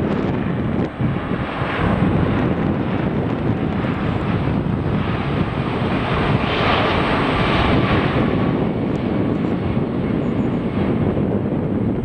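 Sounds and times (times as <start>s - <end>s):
jet engines on landing approach: 0.0s - 12.0s.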